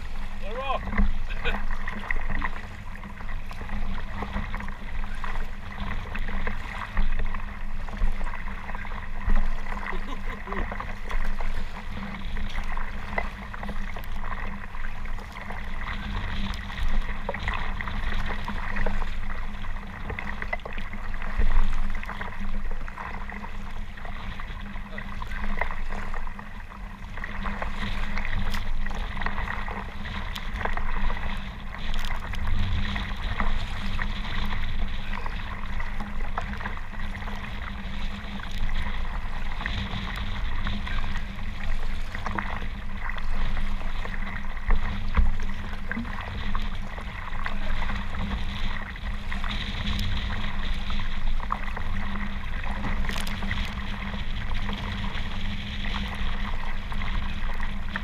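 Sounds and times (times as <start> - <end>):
water splashing around kayak: 0.0 - 58.0
wind rumbling on microphone: 0.0 - 58.0.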